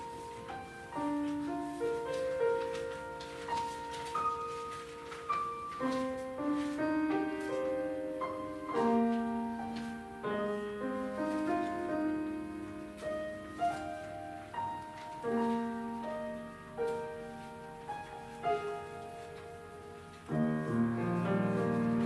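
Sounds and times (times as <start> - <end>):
slow solo piano: 0.0 - 22.0.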